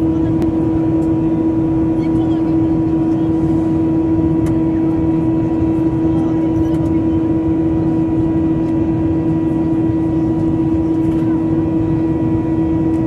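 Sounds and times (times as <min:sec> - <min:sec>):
airliner cabin engine hum: 0:00.0 - 0:13.0.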